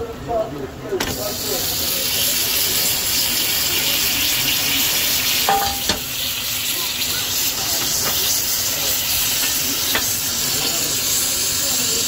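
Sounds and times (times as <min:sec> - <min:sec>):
naan sizzling on griddle: 0:01.0 - 0:12.0.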